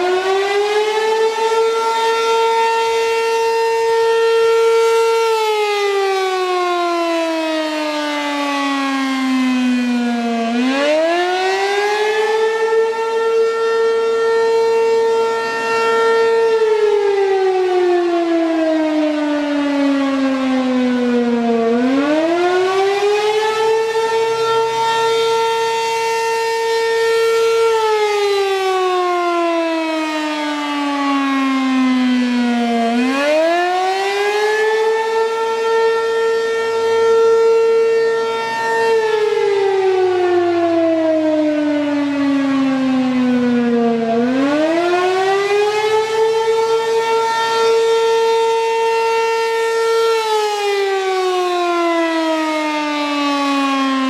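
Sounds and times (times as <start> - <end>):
warning siren rising and falling wail: 0.0 - 54.0.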